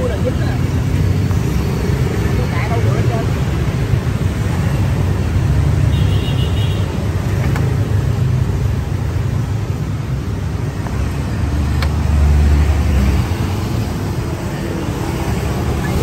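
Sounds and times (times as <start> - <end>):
motorbikes passing: 0.0 - 16.0.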